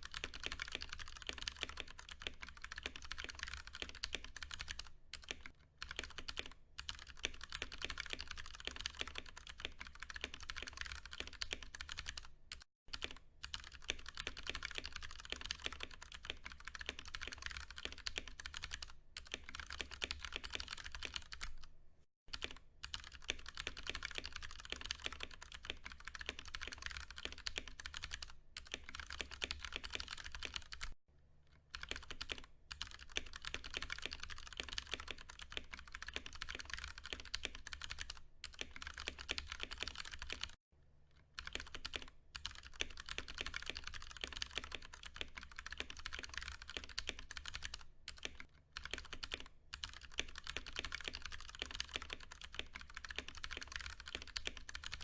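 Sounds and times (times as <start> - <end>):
mechanical keyboard typing: 0.0 - 21.7, 22.3 - 31.0, 31.7 - 40.6, 41.3 - 55.0.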